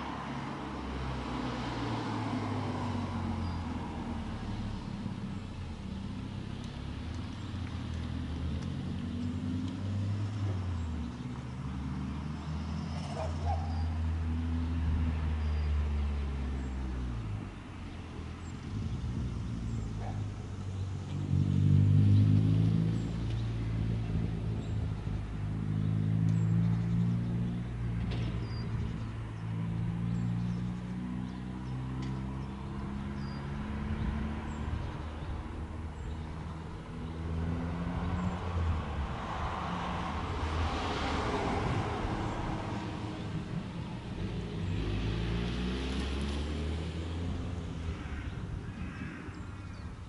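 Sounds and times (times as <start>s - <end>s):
engine humming: 0.0s - 50.0s.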